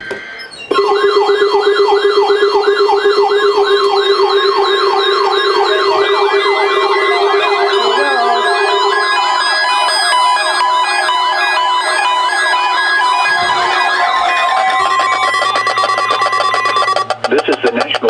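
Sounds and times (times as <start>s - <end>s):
siren-like rising and falling sweep: 0.0s - 17.1s
steady tone: 0.0s - 17.3s
stepped beeping tones: 0.0s - 18.0s
low hum: 0.7s - 17.1s.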